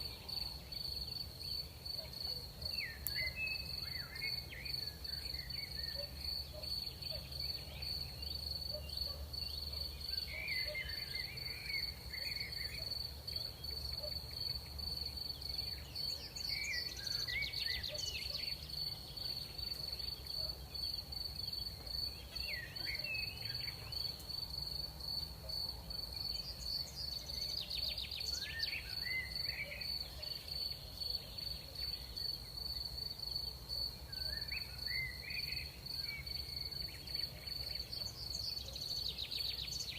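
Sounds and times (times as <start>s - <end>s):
crickets trilling: 0.0s - 39.9s
insect chirps: 0.0s - 39.9s.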